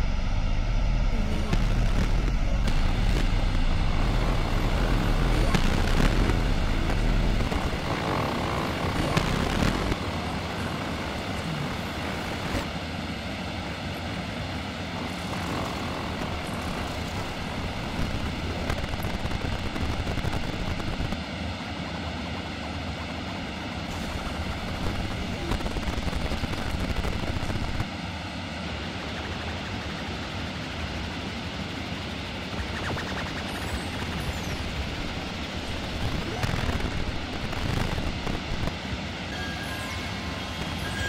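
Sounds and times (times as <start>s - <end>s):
droning electronic noise: 0.0s - 41.0s.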